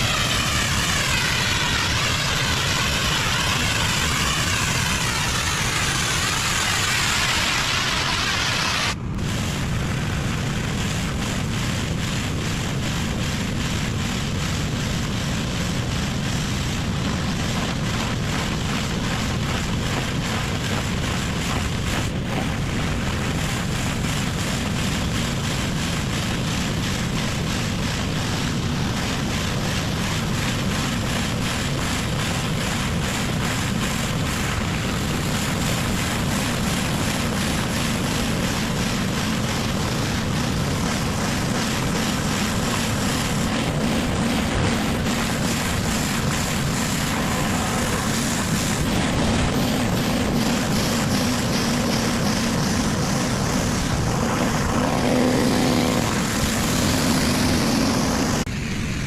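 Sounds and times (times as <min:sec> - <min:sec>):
pressure washer engine running: 0:00.0 - 0:59.0
water jet hissing on surface: 0:00.0 - 0:59.0.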